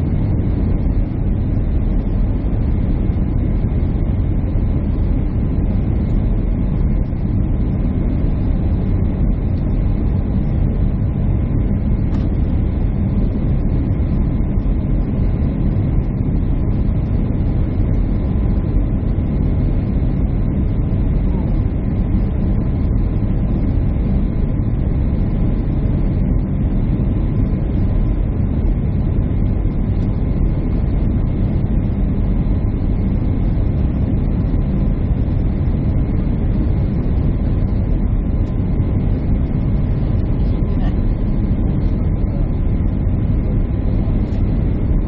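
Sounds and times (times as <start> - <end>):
faint steady whine: 0.0 - 45.0
jet engine and airflow rumble: 0.0 - 45.0.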